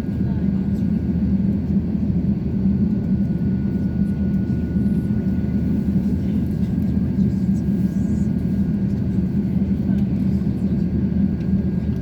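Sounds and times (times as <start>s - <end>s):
airplane cabin low rumble: 0.0s - 12.0s.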